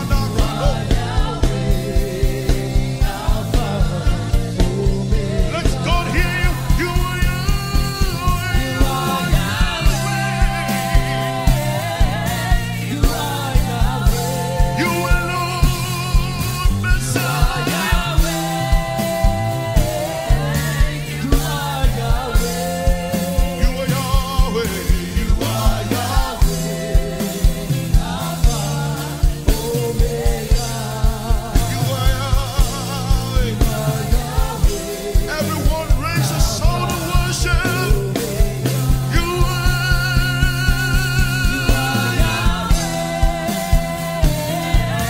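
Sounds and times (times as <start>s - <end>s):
bass line: 0.0s - 45.0s
drum kit steady beat: 0.0s - 45.0s
gospel band playing: 0.0s - 45.0s
lead and backing vocals: 0.0s - 45.0s.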